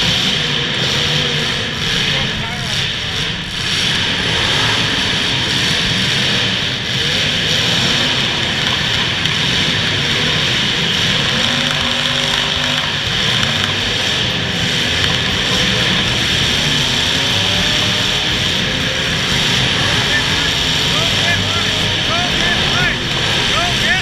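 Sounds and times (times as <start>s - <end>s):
car engines running: 0.0s - 24.0s.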